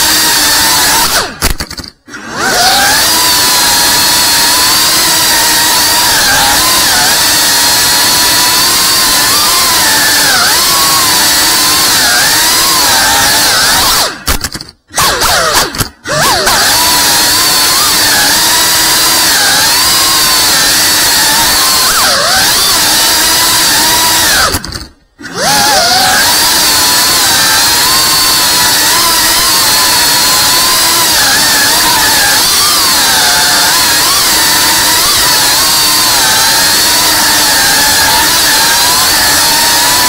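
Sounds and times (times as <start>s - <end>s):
drone motors whining: 0.0s - 40.0s.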